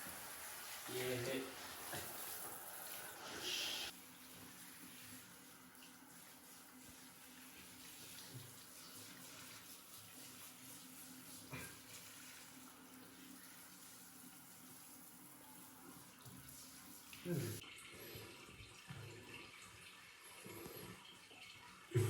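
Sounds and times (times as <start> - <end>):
tap water running: 0.0 - 22.0.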